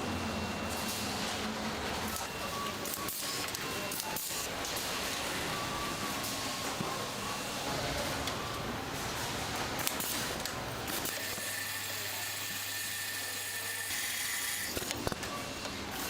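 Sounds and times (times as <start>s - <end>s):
factory machinery whirring: 0.0s - 16.0s.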